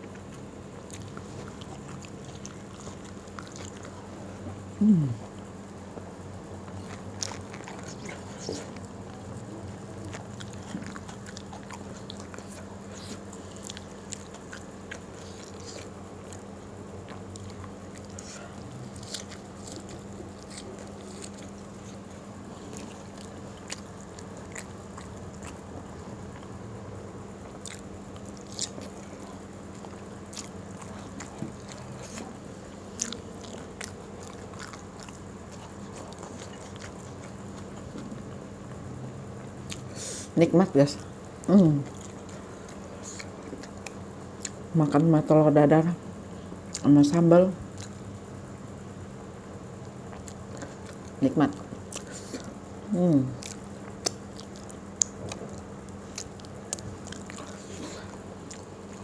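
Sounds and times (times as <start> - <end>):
person chewing fried food: 0.0 - 26.7, 27.3 - 40.3, 41.3 - 44.6, 47.7 - 48.1, 49.8 - 59.0.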